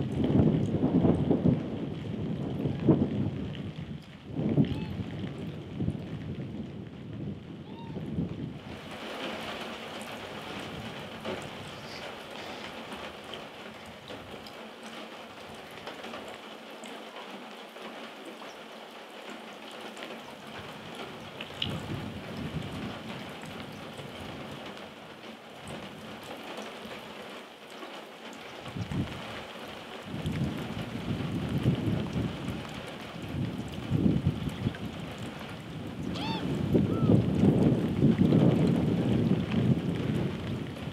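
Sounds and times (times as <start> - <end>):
wind rumbling on microphone: 0.0 - 16.4, 20.3 - 26.6, 28.3 - 40.9
steady rain falling: 0.0 - 40.9.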